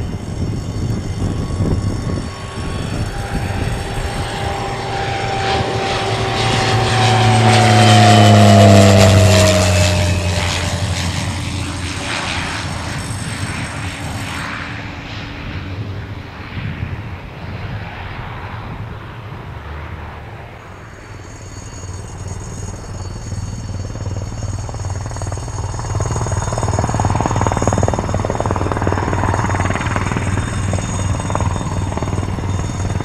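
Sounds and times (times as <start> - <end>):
propeller plane passing low: 0.0 - 33.0.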